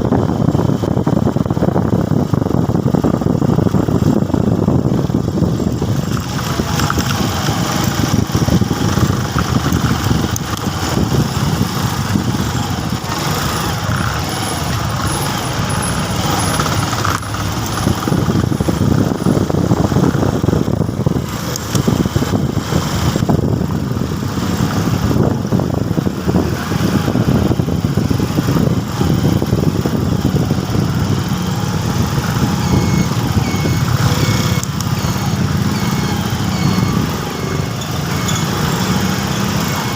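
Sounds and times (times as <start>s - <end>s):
motorcycle riding along road: 0.0s - 39.9s.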